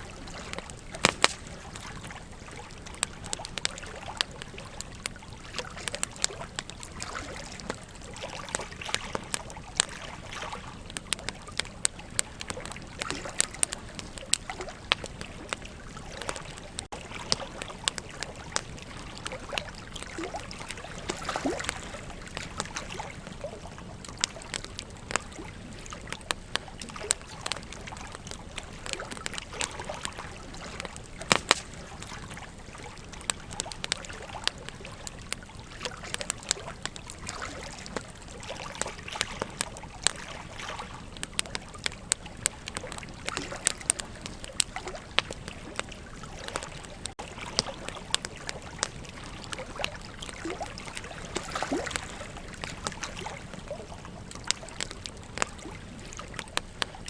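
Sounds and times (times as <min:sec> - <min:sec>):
flowing river water: 0:00.0 - 0:57.0
wood fire crackling and popping: 0:00.0 - 0:57.0.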